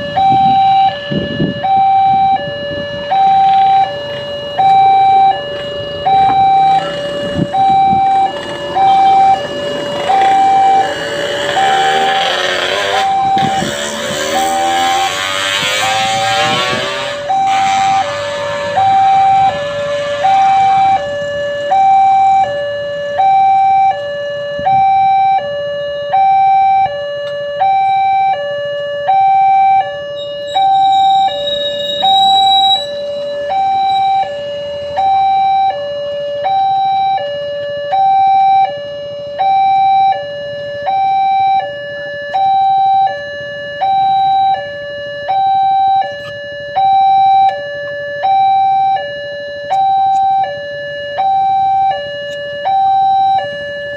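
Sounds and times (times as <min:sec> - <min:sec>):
two-tone level crossing alarm: 0:00.0 - 0:53.9.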